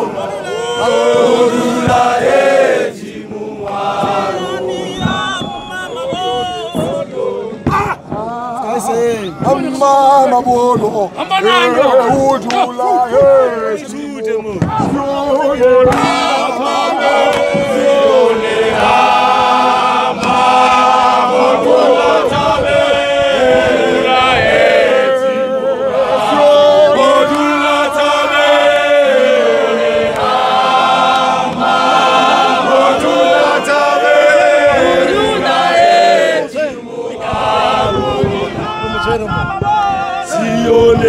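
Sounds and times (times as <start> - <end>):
men singing in harmony: 0.0 - 8.6, 14.8 - 41.0.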